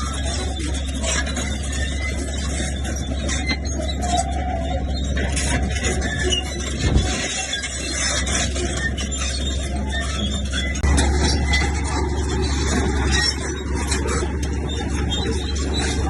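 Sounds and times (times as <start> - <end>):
bulldozer diesel engine running: 0.0 - 16.0
steel tracks squealing: 0.0 - 16.0.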